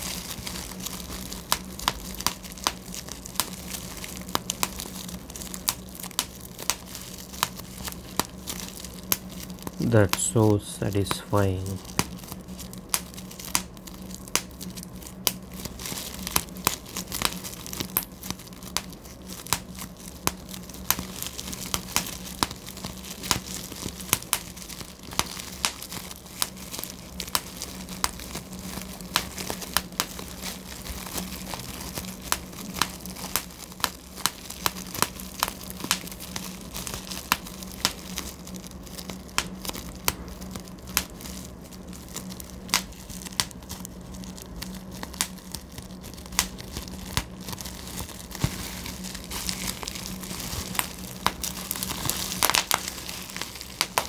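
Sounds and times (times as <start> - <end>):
bubble wrap popping: 0.0 - 54.0
plastic sheet crinkling: 0.0 - 54.0.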